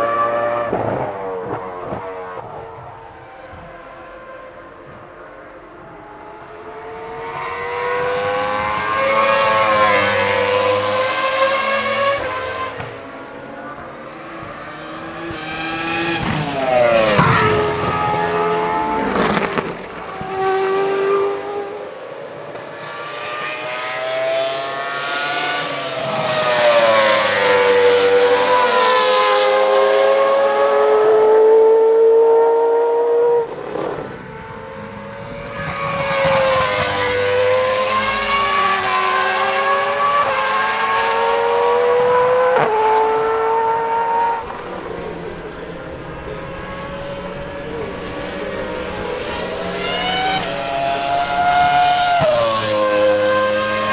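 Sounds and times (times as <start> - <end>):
racing car engine accelerating: 0.0 - 53.9.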